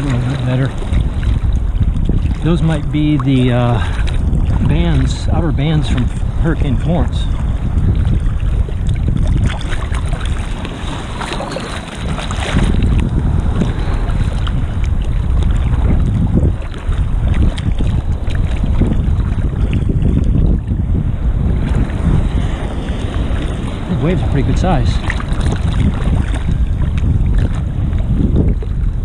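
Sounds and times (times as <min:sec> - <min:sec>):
choppy seawater splashing: 0:00.0 - 0:29.0
heavy low rumble: 0:00.0 - 0:29.0
wind buffeting microphone: 0:00.0 - 0:29.0.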